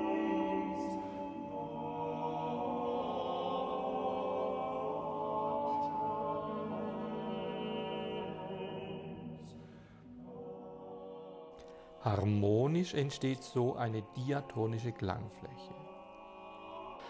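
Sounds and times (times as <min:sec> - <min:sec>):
vocal ensemble chanting: 0:00.0 - 0:17.0.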